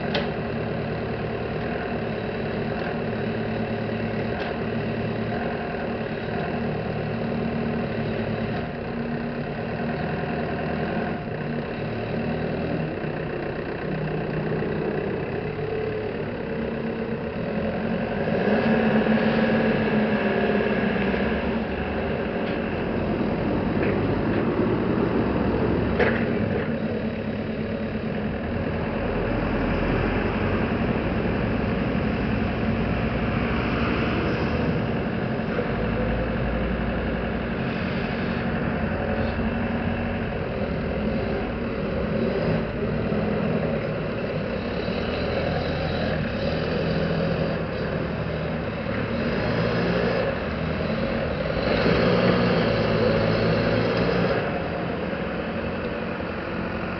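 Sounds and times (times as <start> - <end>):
forklift diesel engine running: 0.0 - 56.9.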